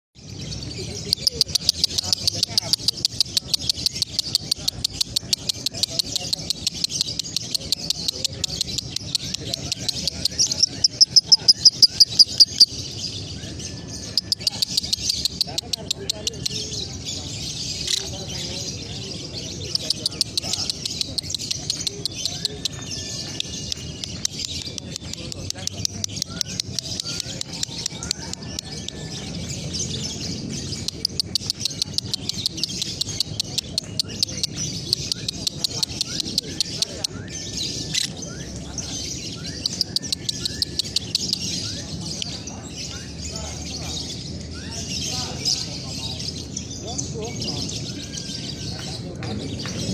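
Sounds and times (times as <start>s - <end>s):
lovebird chirping rapidly: 0.4s - 49.1s.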